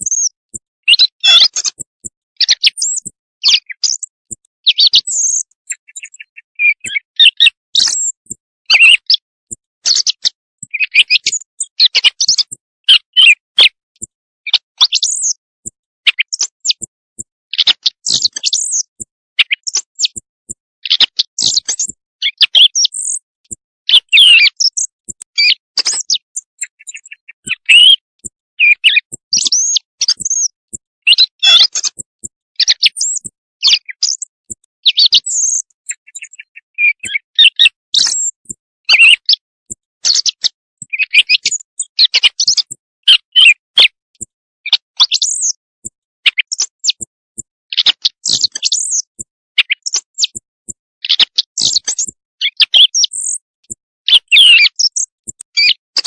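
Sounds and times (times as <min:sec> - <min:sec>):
recorded bird chirps: 0:00.0 - 0:56.0.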